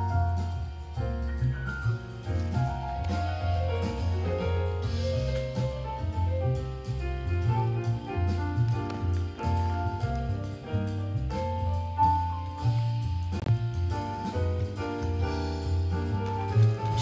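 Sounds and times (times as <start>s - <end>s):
jazz music: 0.0s - 17.0s.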